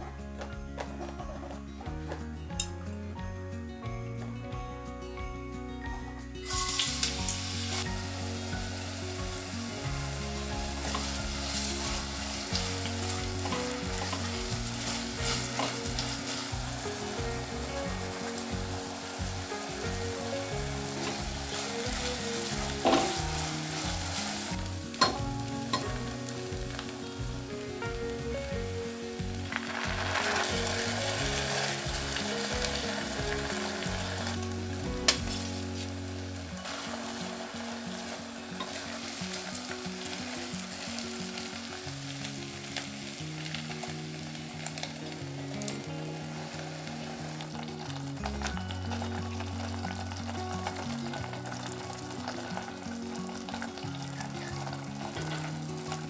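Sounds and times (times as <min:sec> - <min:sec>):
food sizzling in hot oil: 0:06.4 - 0:56.0.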